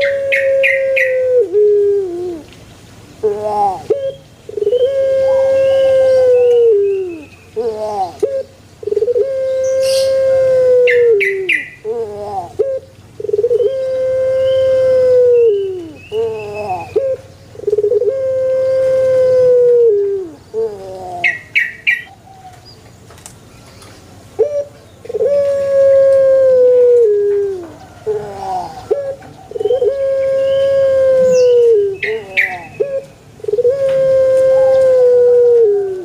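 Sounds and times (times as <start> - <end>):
dove cooing: 0.0 - 2.6, 3.2 - 22.6, 24.4 - 36.0.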